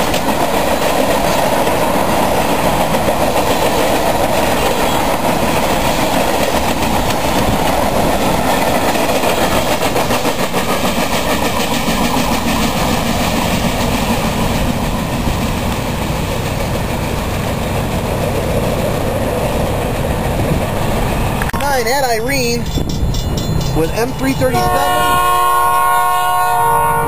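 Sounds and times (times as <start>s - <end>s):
wheels clicking over rail joints: 0.0s - 22.0s
freight train rumbling past: 0.0s - 27.0s.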